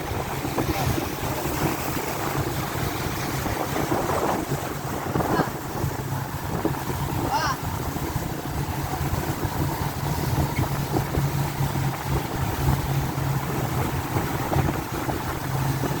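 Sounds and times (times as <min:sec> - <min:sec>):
motorboat engine droning: 0:00.0 - 0:16.0
wind buffeting microphone: 0:00.0 - 0:16.0.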